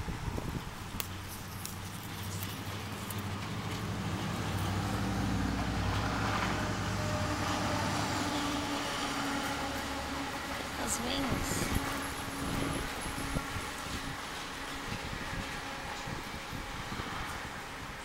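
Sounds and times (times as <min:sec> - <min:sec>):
vehicle engine humming: 0:00.0 - 0:17.6.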